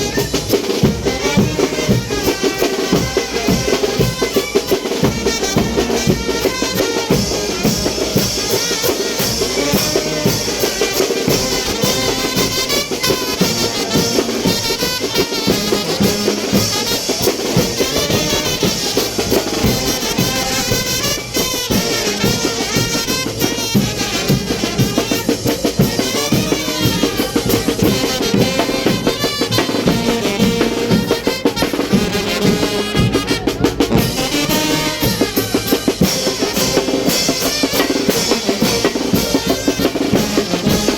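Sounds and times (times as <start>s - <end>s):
bass drum and snare beat: 0.0s - 40.9s
brass band playing: 0.0s - 40.9s.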